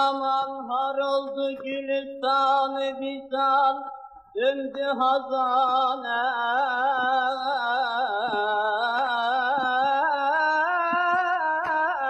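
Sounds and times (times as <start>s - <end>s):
person singing folk song: 0.0s - 12.0s.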